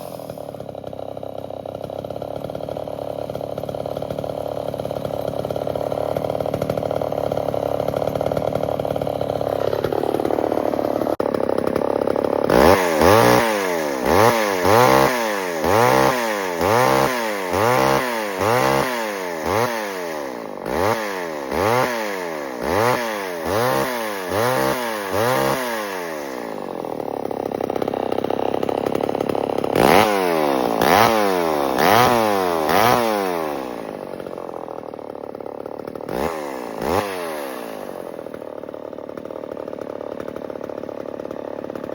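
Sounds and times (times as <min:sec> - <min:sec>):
chainsaw engine revving: 0:00.0 - 0:41.9.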